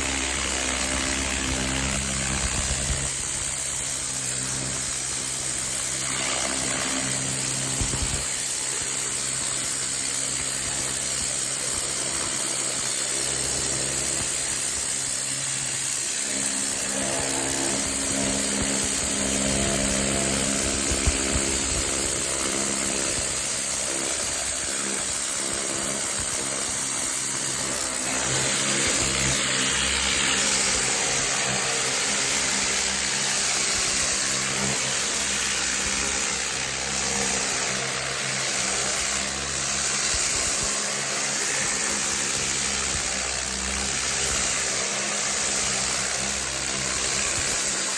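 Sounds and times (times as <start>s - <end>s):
pressure washer motor hum: 0.0s - 47.9s.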